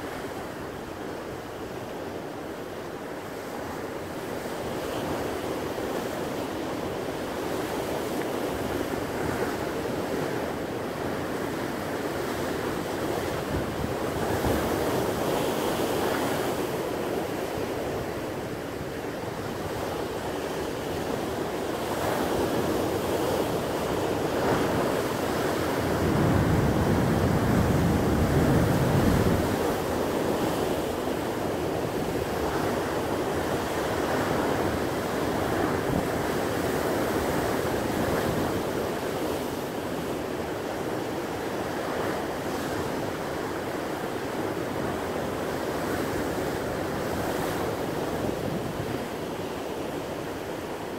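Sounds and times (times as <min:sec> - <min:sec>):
sea surf breaking over rocks: 0:02.6 - 0:50.9.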